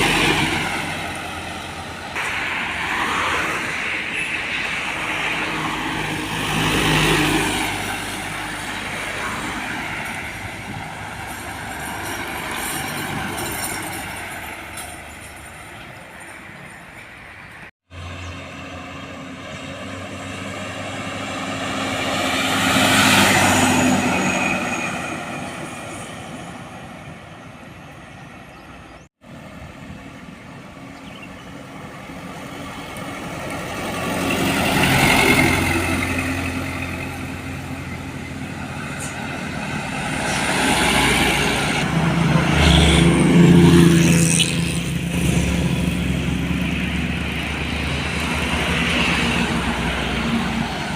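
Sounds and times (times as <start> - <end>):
large trucks passing by: 0.0 - 50.9.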